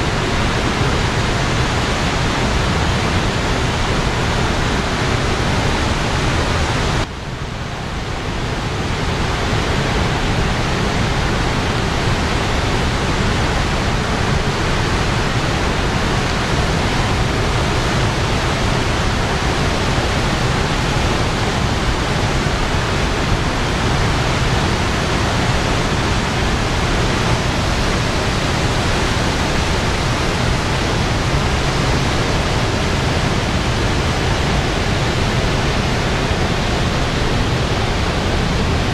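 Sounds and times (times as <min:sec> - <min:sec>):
water rushing from spillway: 0:00.0 - 0:38.9.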